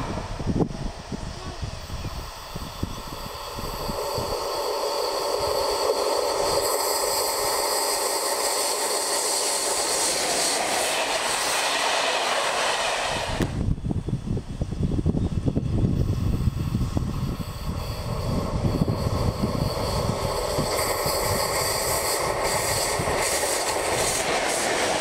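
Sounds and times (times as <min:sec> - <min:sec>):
train passing on rails: 0:00.0 - 0:25.0.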